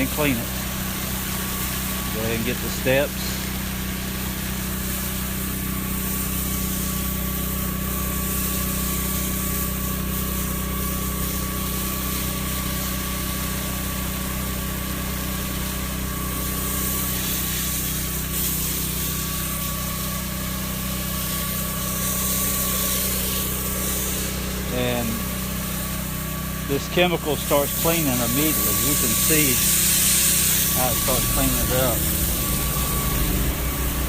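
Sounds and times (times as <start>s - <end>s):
hiss of spray: 0.0s - 34.0s
pressure washer pump running: 0.0s - 34.0s.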